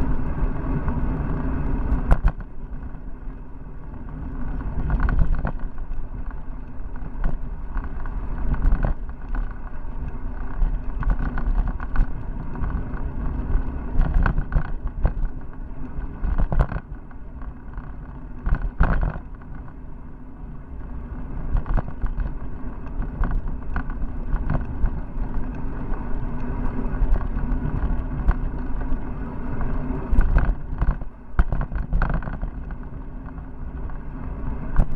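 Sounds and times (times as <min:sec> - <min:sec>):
bicycle rolling on asphalt: 0:00.0 - 0:34.9.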